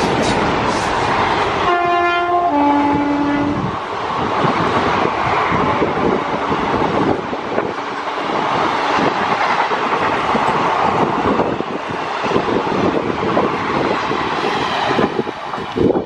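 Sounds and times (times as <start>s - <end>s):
clickety-clack over rail joints: 0.0s - 16.0s
train wheels rushing on rail: 0.0s - 16.0s.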